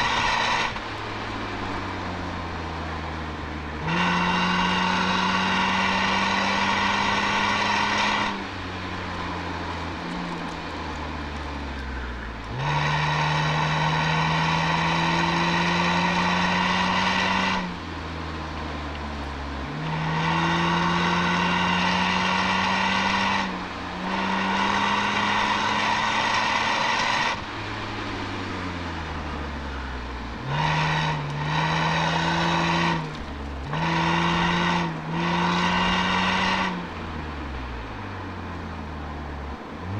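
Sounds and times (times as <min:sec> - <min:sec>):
car engine revving through exhaust: 0:00.0 - 0:39.9.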